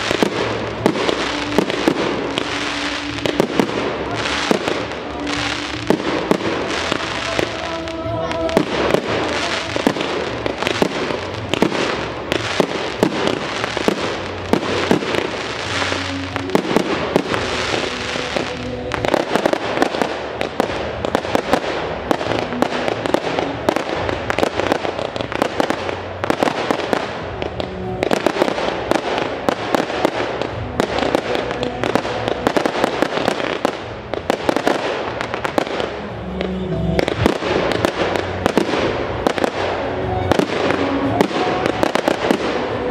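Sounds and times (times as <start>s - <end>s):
fireworks bangs: 0.0s - 42.9s
fireworks crackle and hiss: 0.0s - 42.9s
music playing: 0.0s - 42.9s.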